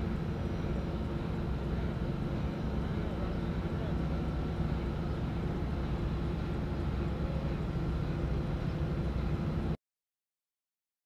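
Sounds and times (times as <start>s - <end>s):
ship machinery low drone: 0.0s - 9.8s.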